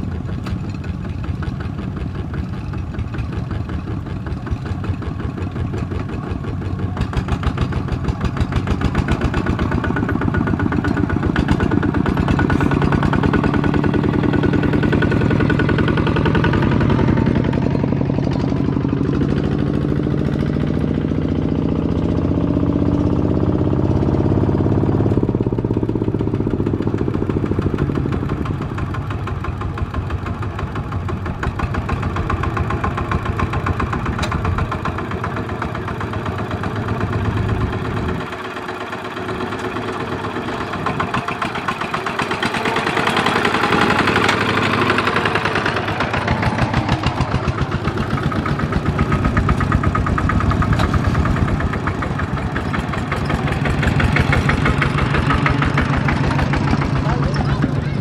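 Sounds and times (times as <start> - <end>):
walking tractor diesel engines: 0.0 - 58.0.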